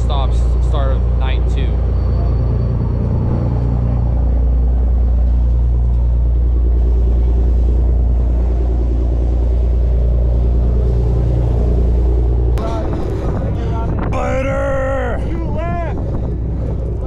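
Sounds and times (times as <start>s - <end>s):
boat engines rumbling: 0.0s - 17.0s.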